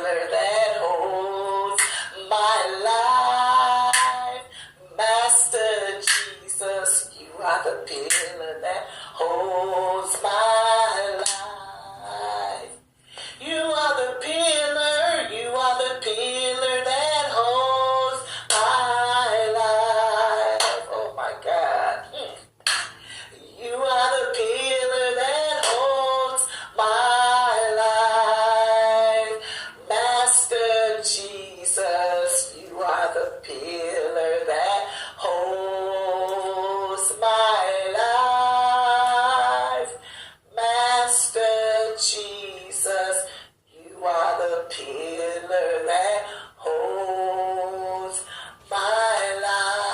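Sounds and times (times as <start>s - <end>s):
woman singing: 0.0s - 49.9s.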